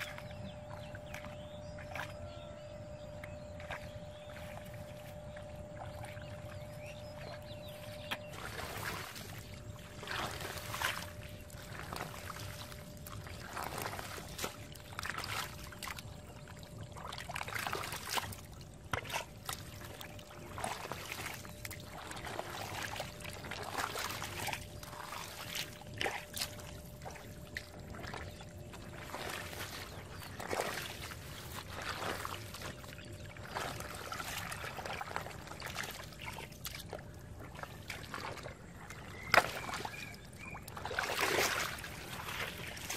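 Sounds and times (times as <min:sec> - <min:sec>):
hands squelching through wet mud: 0:00.0 - 0:42.9
small water splashes: 0:00.0 - 0:42.9.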